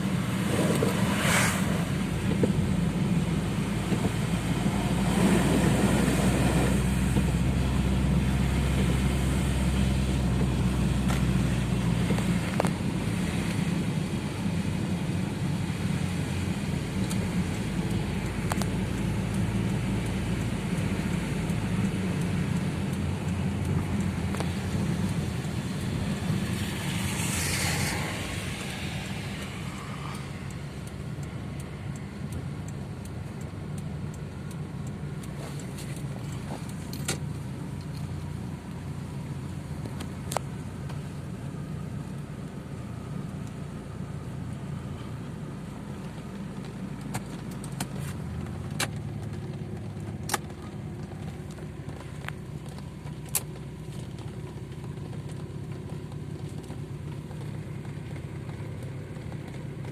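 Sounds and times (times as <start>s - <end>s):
motor vehicle running: 0.0s - 59.9s.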